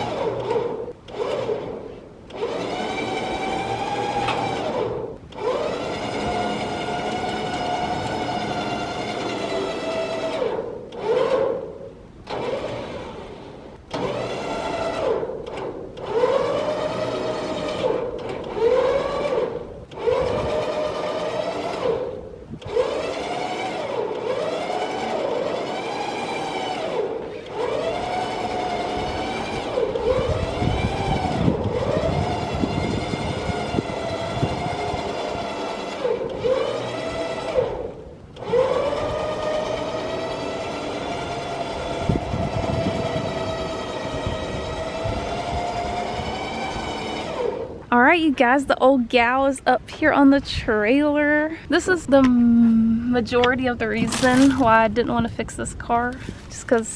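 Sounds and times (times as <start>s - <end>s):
electric winch motor whining: 0.0s - 48.4s.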